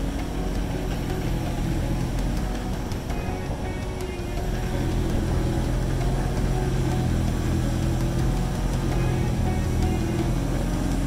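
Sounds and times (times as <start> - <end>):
snowblower engine drone: 0.0 - 11.0.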